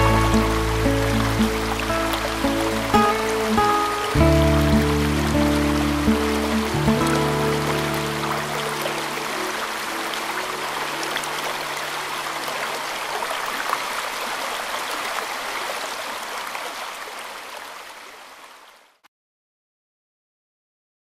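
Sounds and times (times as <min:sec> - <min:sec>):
river babbling and gurgling: 0:00.0 - 0:19.0.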